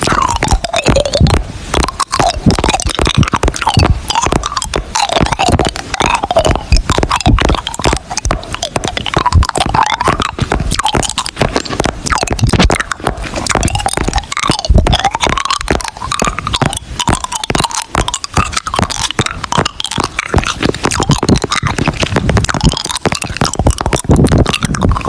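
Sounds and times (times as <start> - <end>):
rapid crunching clicks: 0.0 - 25.0.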